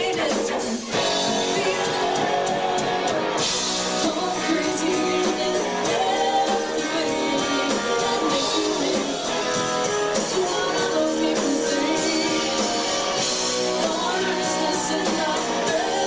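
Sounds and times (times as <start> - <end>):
electric guitar: 0.0 - 16.0
live rock band: 0.0 - 16.0
person singing: 0.0 - 16.0.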